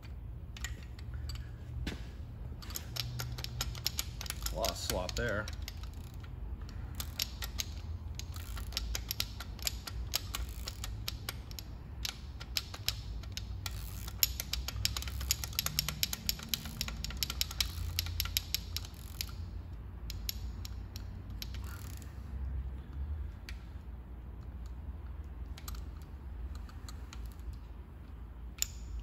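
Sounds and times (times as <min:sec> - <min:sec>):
socket ratchet clicking: 0:02.6 - 0:22.2, 0:24.3 - 0:29.0.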